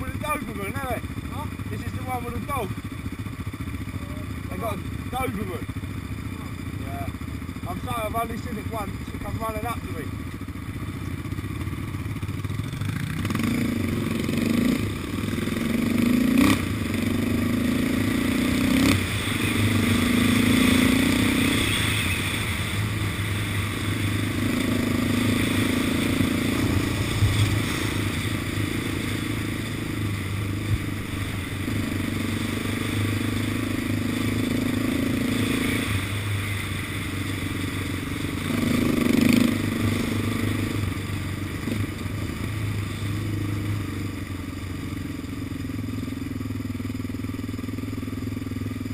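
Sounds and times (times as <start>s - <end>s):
quad engine running under load: 0.0s - 48.9s.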